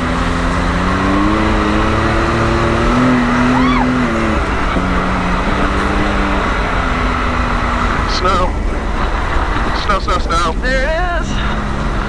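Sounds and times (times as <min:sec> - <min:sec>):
turbo engine running: 0:00.0 - 0:12.0.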